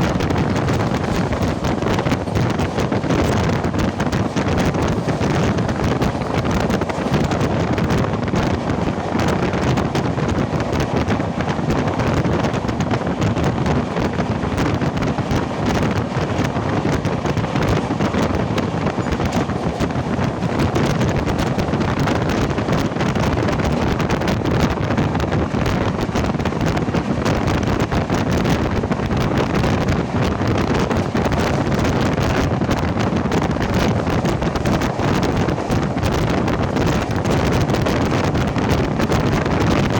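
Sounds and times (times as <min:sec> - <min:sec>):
train rumbling along track: 0:00.0 - 0:39.9
wind buffeting microphone: 0:00.0 - 0:39.9.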